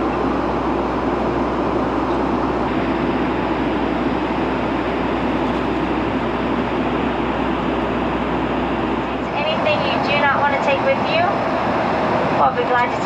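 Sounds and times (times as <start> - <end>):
airplane cabin noise: 0.0 - 13.0.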